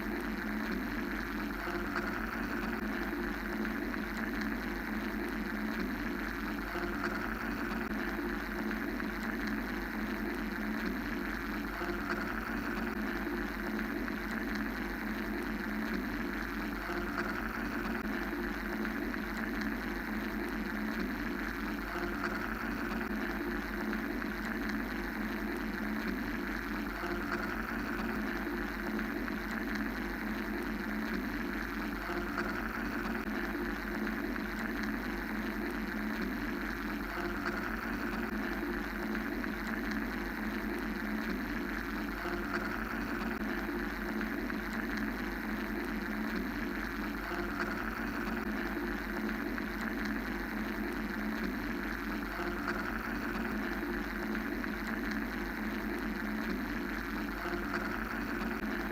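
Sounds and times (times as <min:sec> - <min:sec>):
mechanical white noise drone: 0:00.0 - 0:58.9.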